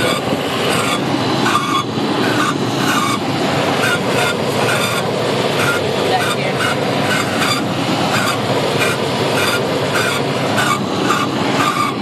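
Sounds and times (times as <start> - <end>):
car engine running: 0.0 - 12.0
loud screeching and squeals: 0.0 - 12.0.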